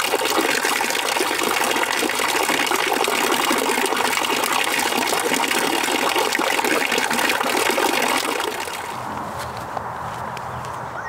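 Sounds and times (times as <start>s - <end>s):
fountain water splashing into basin: 0.0s - 9.1s.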